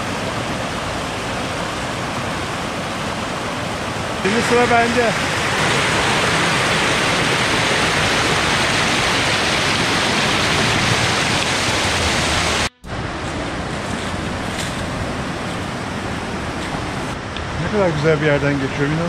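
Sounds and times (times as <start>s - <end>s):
stream rushing over rocks: 0.0s - 17.9s.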